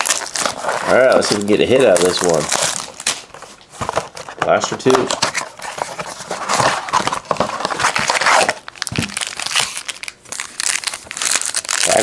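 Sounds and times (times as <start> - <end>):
wrapper crinkling and tearing: 0.0 - 3.4, 4.6 - 12.0.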